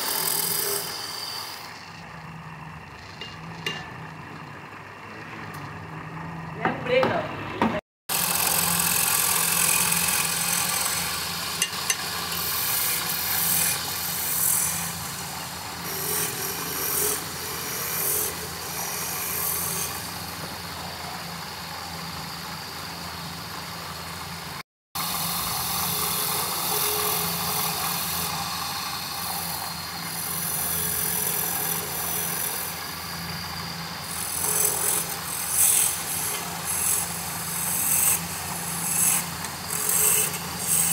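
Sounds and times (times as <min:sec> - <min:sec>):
tool cutting spinning wood: 0:00.0 - 0:03.9, 0:08.1 - 0:24.4, 0:25.0 - 0:40.9
lathe motor hum: 0:08.1 - 0:40.9.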